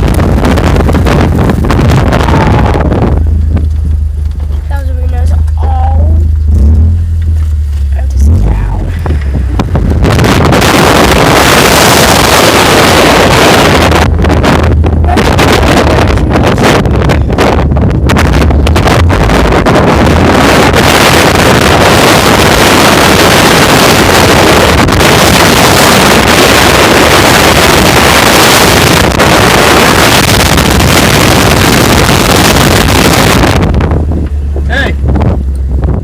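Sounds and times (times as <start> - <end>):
vehicle noise: 0.0 - 36.0
wind buffeting microphone: 0.0 - 36.0.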